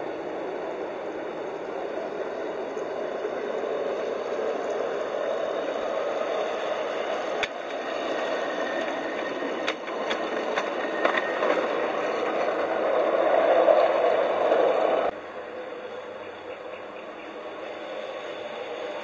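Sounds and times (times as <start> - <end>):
miniature train wheels rumbling: 0.0 - 19.0.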